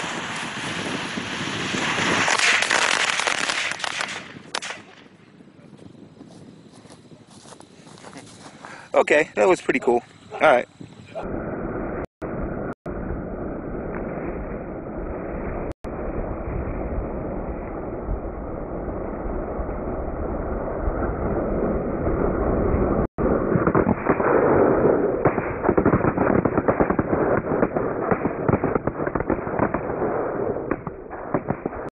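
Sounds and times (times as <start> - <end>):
fireworks crackling and popping: 0.0 - 31.9.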